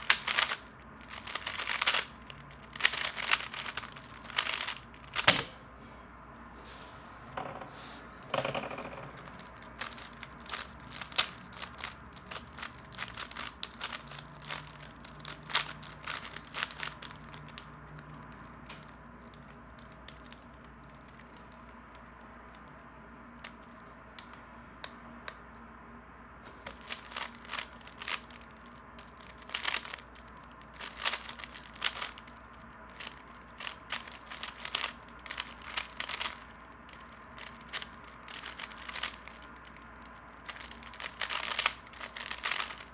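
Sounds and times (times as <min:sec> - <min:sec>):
plastic puzzle cube clicking: 0:00.0 - 0:05.6, 0:08.4 - 0:22.8, 0:26.7 - 0:42.9.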